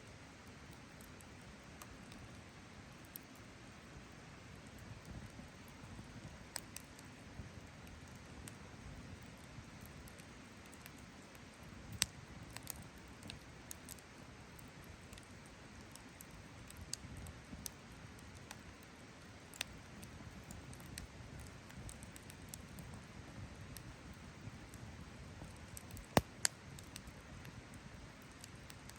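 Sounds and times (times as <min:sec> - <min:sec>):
campfire crackling and popping: 0:00.4 - 0:28.9.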